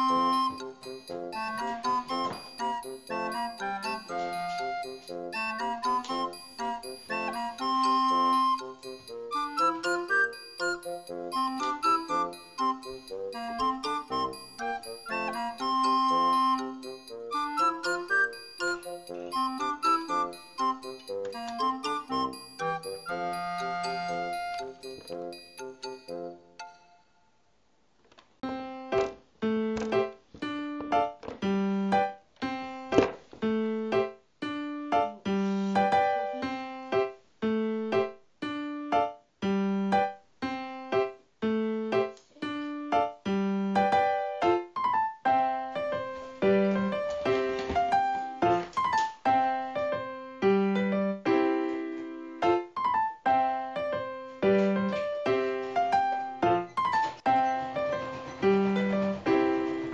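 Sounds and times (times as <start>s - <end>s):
light keyboard tune: 0.0s - 27.3s, 28.4s - 59.9s.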